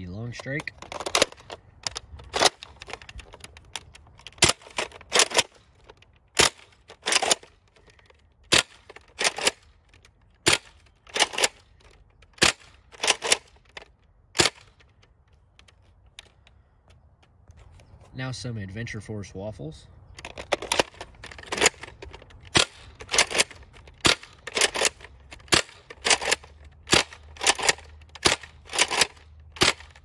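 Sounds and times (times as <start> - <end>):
priming bolt clacks: 0.2 - 17.4, 20.1 - 30.0.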